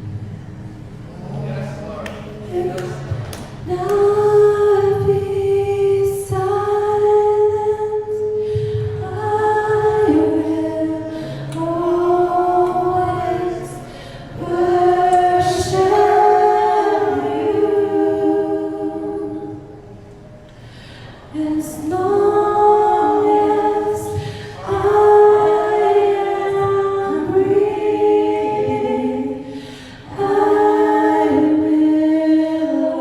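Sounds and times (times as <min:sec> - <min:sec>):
voices singing a worship song: 0:01.4 - 0:33.0.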